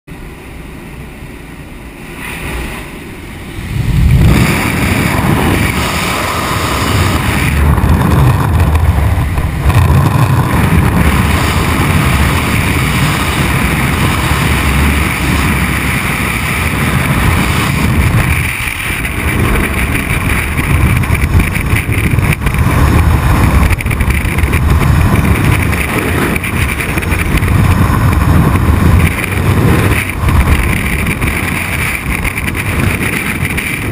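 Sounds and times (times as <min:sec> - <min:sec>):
aircraft cabin noise: 0:00.4 - 0:33.9
wind buffeting microphone: 0:02.3 - 0:33.9.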